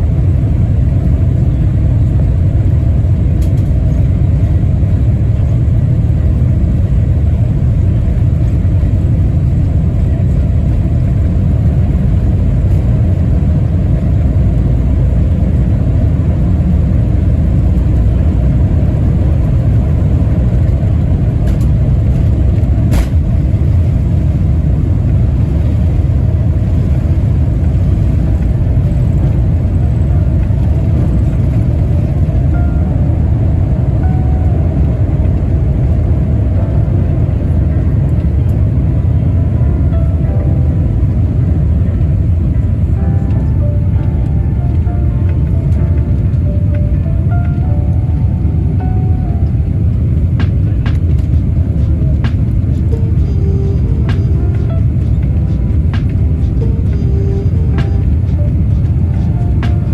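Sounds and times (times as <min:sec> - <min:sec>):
airplane engines rumbling in cabin: 0:00.0 - 0:59.9.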